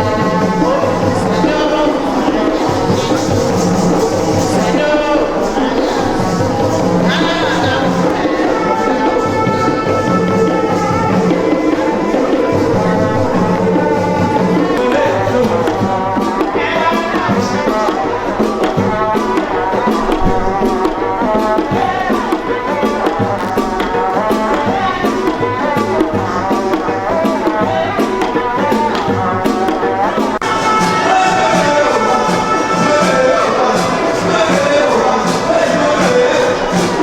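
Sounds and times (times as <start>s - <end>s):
brassy music: 0.0s - 37.0s
drums and rattles rhythm: 0.0s - 37.0s.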